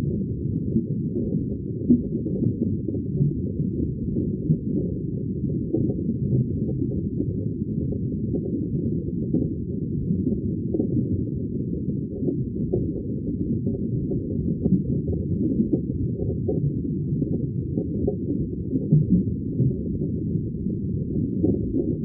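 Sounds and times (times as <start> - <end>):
muffled underwater rumbling: 0.0 - 22.0.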